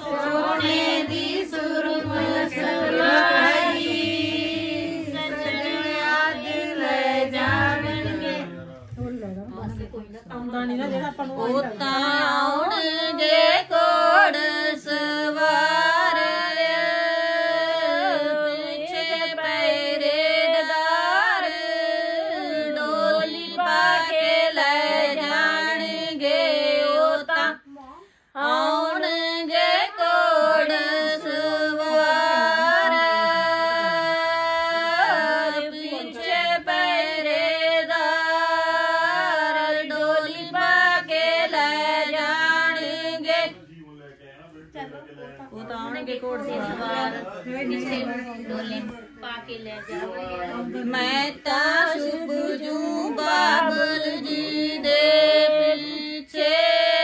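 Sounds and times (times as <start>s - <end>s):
women singing folk song: 0.0s - 43.6s, 45.6s - 49.0s, 49.8s - 57.0s.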